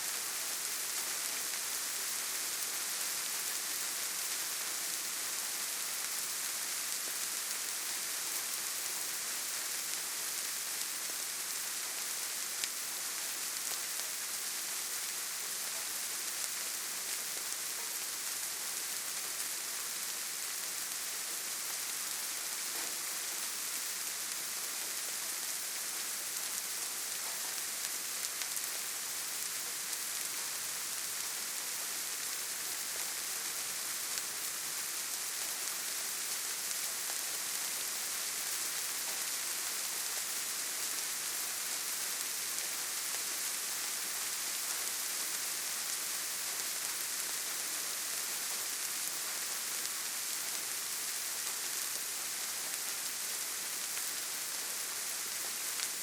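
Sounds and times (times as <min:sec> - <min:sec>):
gentle rain on leaves: 0:00.0 - 0:56.0.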